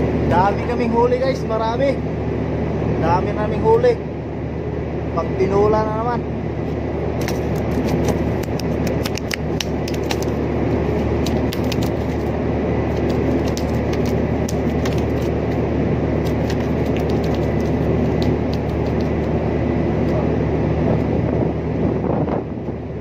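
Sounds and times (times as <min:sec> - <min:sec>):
low hum of ship machinery: 0:00.0 - 0:23.0.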